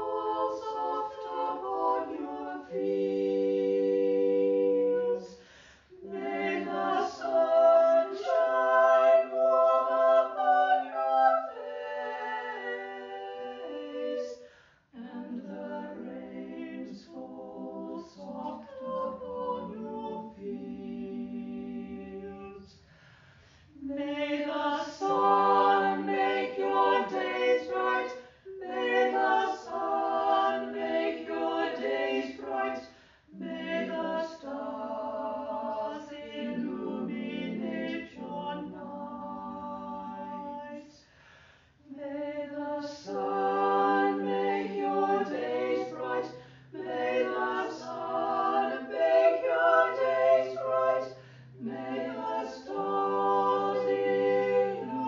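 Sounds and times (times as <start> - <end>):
choir singing: 0.0 - 22.9, 23.7 - 55.0.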